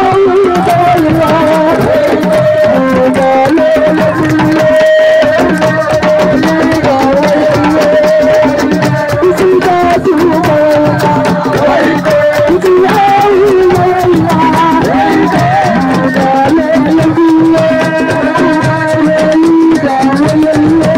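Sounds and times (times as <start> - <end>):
fast dense drumming: 0.0 - 20.9.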